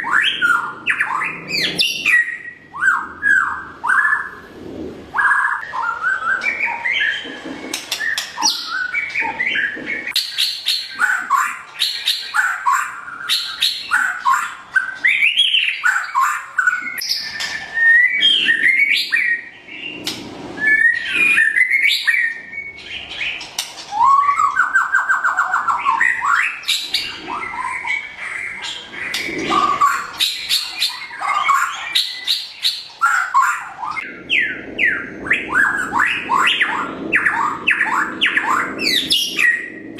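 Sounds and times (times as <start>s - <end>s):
songbird singing: 0.0s - 4.4s, 5.1s - 39.9s.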